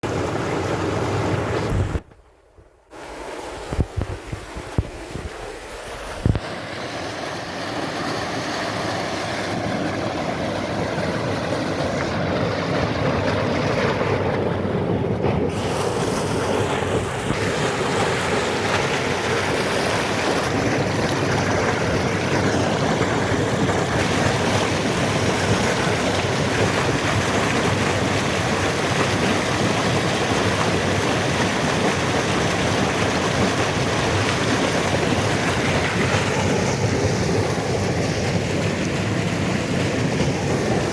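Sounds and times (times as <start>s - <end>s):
river rushing: 2.9s - 14.3s, 15.5s - 40.9s.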